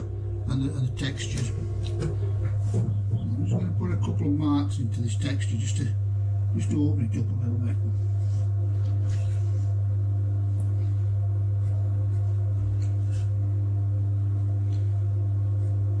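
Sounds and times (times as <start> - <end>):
potter's wheel motor hum: 0.0 - 16.0.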